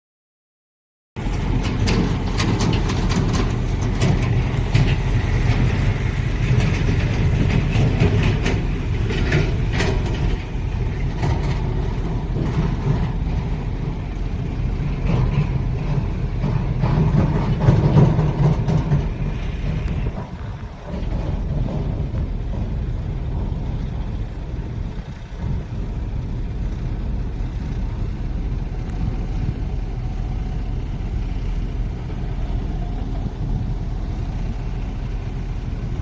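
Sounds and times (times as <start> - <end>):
heavy engine rumbling: 1.2 - 36.0.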